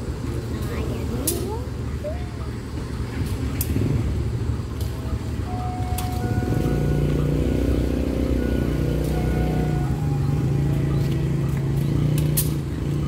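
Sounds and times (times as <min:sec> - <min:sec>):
diesel train engine idling: 0:00.0 - 0:13.0.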